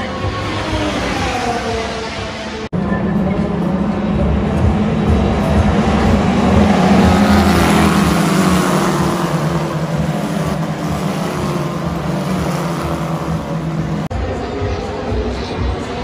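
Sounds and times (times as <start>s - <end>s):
racing car engines passing at speed: 0.0s - 16.0s.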